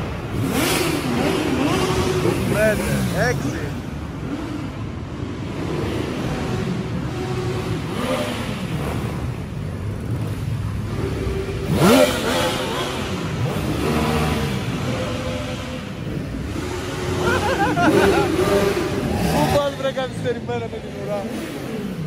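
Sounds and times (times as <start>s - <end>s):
vehicle engines revving past: 0.0s - 22.0s.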